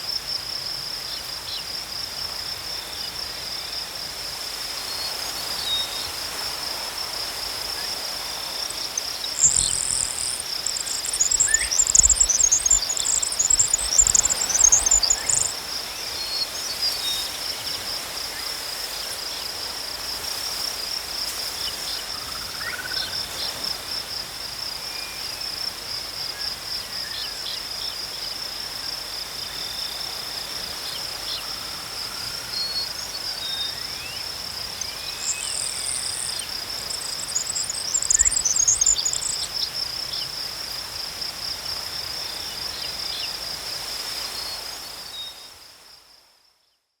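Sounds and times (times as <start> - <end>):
crickets chirping: 0.0 - 46.8
fainter cricket trill: 0.1 - 28.1, 29.1 - 44.4.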